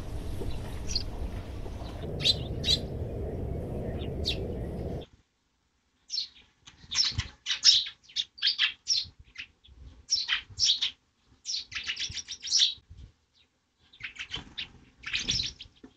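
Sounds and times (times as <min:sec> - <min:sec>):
sparrows chirping: 0:00.0 - 0:05.1, 0:06.0 - 0:15.9.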